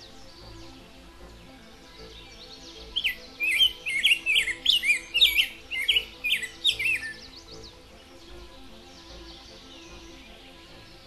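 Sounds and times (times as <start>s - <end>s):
quiet background music: 0.0s - 11.0s
songbird chirping: 0.0s - 11.0s.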